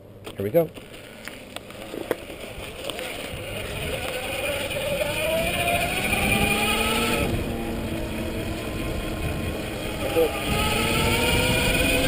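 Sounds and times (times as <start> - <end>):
tyre and wind rumble: 0.6 - 12.0
electric bike motor whining: 0.8 - 12.0.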